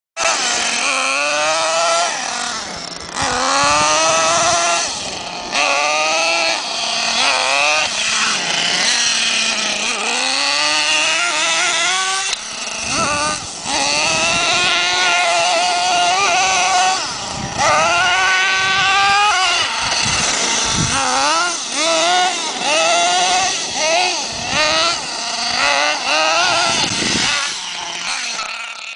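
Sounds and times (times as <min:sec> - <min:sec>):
rc truck nitro engine revving: 0:00.2 - 0:28.9.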